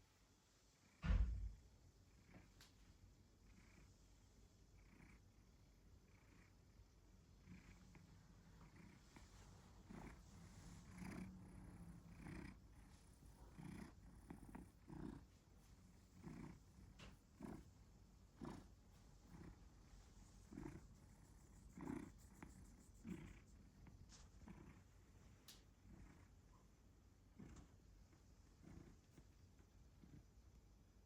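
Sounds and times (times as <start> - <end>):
cat purring: 0.7 - 30.8.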